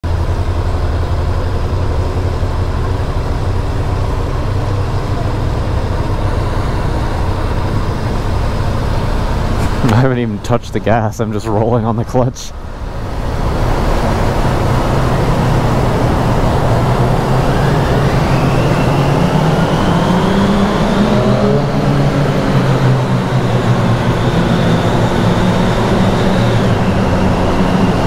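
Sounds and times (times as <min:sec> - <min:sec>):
high whine rising in pitch: 0:00.0 - 0:28.0
motorcycle engines running: 0:00.0 - 0:28.0.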